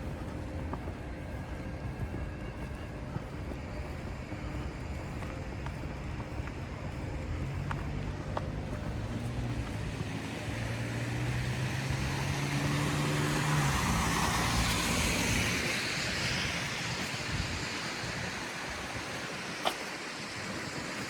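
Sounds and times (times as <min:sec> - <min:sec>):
vehicle engine humming: 0:00.0 - 0:21.0
passing car tyre noise: 0:03.8 - 0:21.0.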